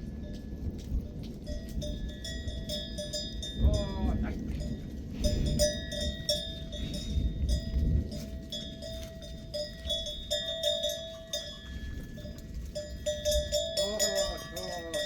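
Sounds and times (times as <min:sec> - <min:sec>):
low rustling noise: 0:00.0 - 0:13.8
goat bells clanking: 0:00.0 - 0:15.0.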